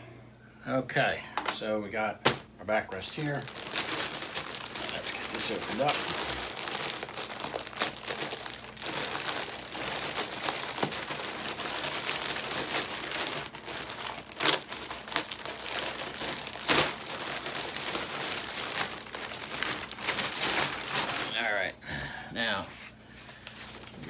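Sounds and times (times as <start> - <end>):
packaging crinkling and rustling: 1.4 - 21.7.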